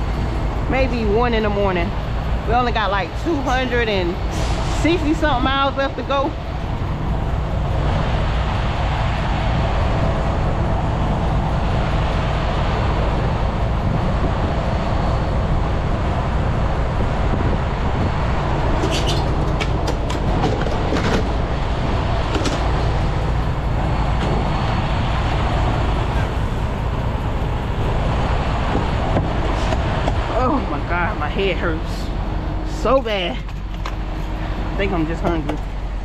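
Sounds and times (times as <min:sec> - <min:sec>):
truck diesel engine rumbling: 0:00.0 - 0:36.0.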